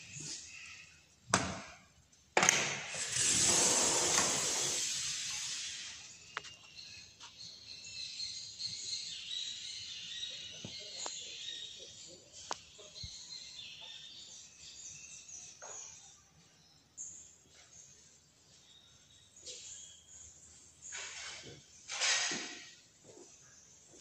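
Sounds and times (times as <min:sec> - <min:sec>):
birds: 0:03.4 - 0:24.0.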